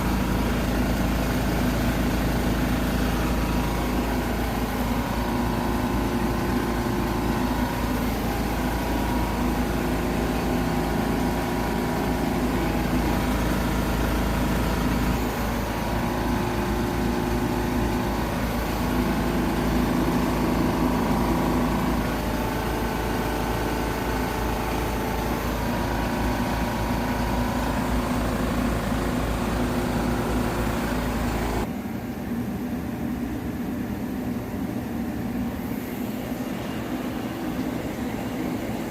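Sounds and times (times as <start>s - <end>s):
grinding machine hum: 0.0s - 31.7s, 35.4s - 38.9s.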